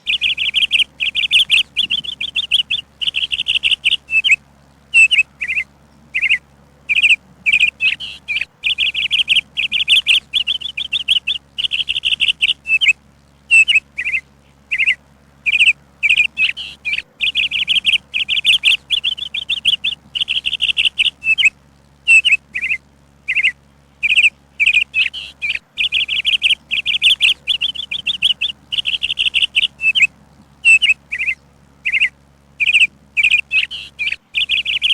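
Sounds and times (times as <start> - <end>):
songbird chirping and trilling: 0.0 - 34.9.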